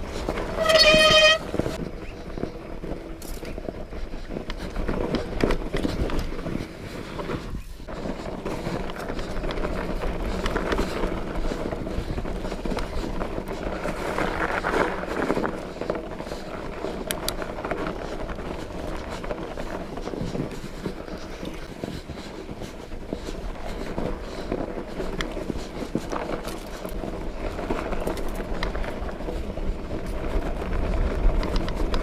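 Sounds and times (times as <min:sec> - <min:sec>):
bike rattling and knocking: 0:00.0 - 0:32.0
bike tyres rolling on trail: 0:00.0 - 0:32.0.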